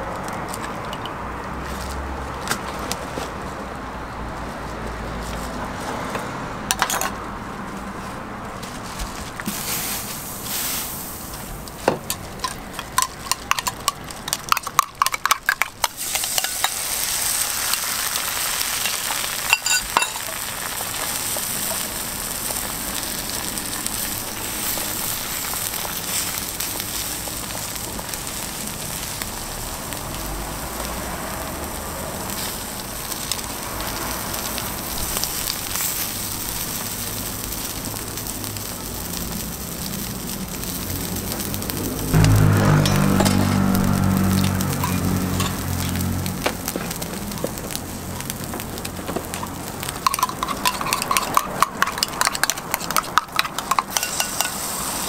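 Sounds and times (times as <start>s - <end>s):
egg mixture sizzling on griddle: 9.0s - 55.0s.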